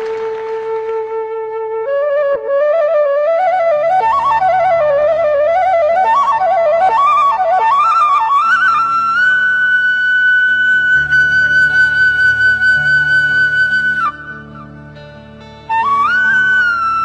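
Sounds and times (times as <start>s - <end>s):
flute melody: 0.0s - 17.0s.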